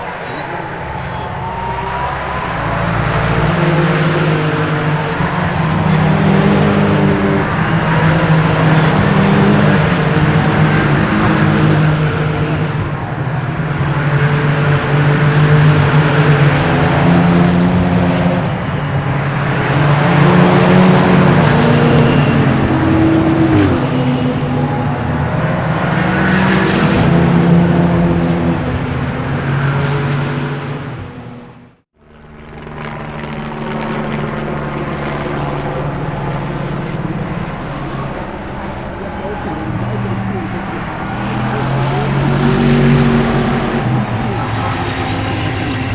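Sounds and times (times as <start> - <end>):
race car engines passing: 0.0 - 45.9.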